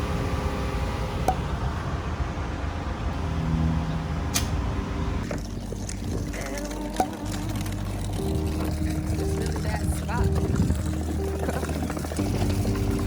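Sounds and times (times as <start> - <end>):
low rumble and hum: 0.0 - 13.0.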